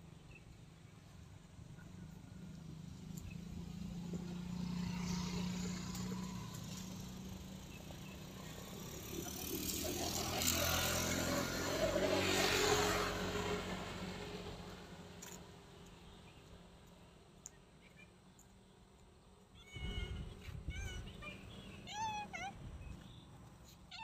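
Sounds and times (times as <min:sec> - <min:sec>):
vehicles passing: 0:00.0 - 0:24.0.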